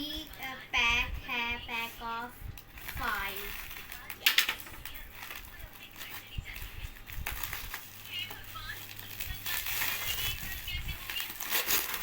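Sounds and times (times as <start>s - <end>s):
plastic packaging crinkling: 1.7s - 12.0s.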